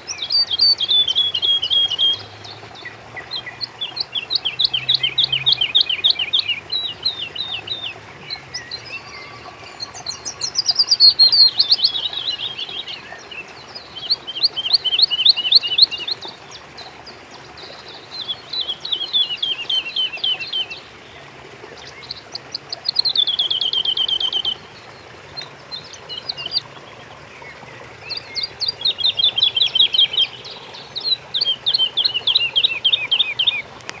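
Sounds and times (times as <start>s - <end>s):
songbird singing: 0.0s - 34.0s.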